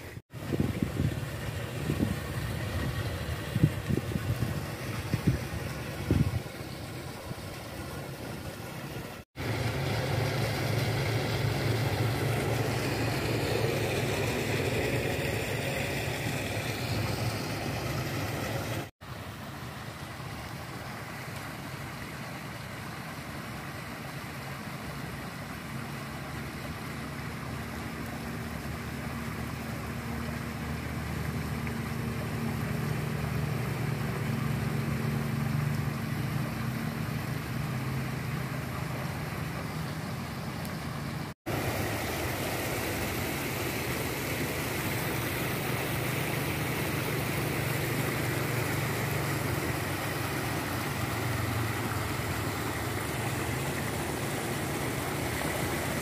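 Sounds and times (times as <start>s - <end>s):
low engine hum: 0.0s - 56.0s
rushing water: 0.0s - 56.0s.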